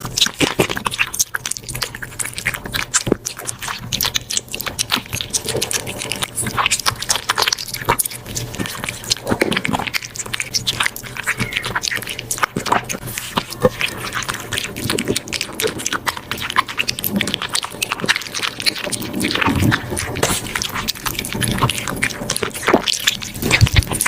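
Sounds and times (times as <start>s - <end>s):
cat chewing crunchily: 0.0s - 24.0s.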